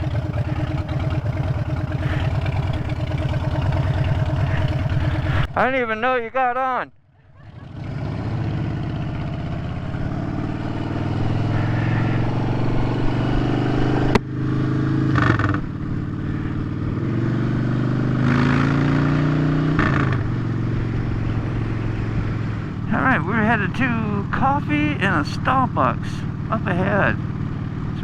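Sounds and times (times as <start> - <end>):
motorcycle engine accelerating: 0.0 - 6.0, 7.0 - 28.0.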